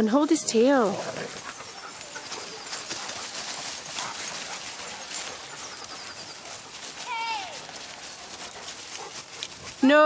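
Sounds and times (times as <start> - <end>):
footsteps crunching dry leaves: 1.2 - 10.0.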